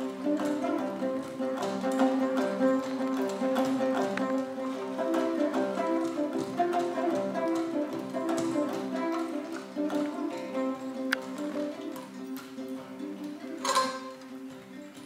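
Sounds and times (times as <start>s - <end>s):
plucked string instruments: 0.0s - 15.0s.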